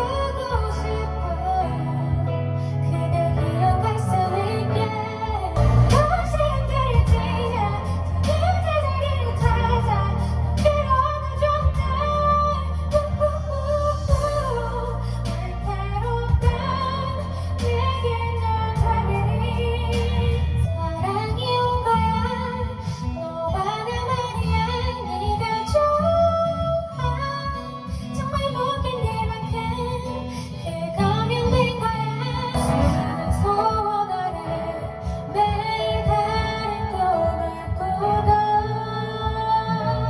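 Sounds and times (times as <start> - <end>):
pop song with female vocals: 0.0 - 40.0.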